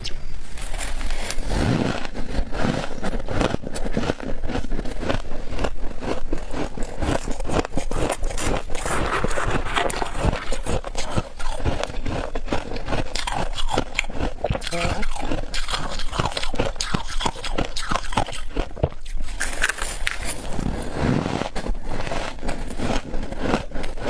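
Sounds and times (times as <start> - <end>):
frost crunching and scraping: 0.4 - 24.0.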